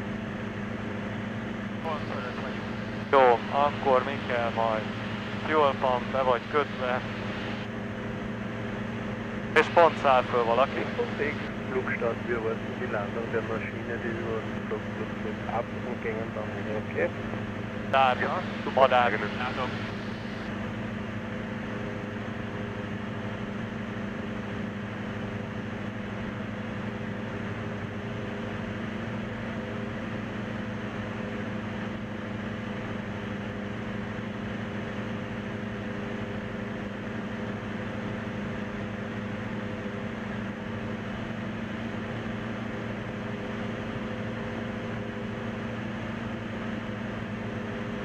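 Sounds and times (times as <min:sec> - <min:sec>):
light aircraft engine drone: 0:00.0 - 0:48.0.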